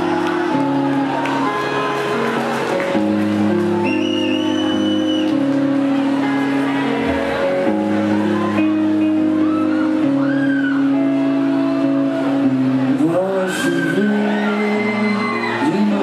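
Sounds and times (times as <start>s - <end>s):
rock band playing live: 0.0s - 16.0s
sliding guitar notes: 0.0s - 16.0s.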